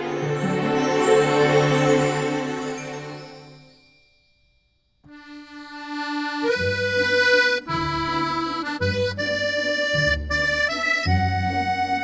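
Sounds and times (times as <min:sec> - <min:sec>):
reedy instrumental melody: 0:00.0 - 0:03.8, 0:05.1 - 0:12.0.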